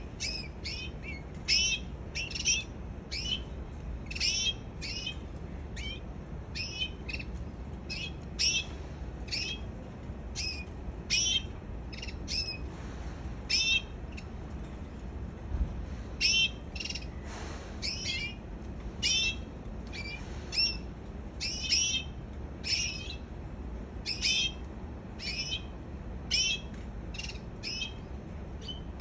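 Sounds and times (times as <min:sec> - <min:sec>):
canary singing: 0:00.0 - 0:12.7, 0:13.4 - 0:14.4, 0:16.2 - 0:17.2, 0:17.8 - 0:23.3, 0:24.0 - 0:29.0.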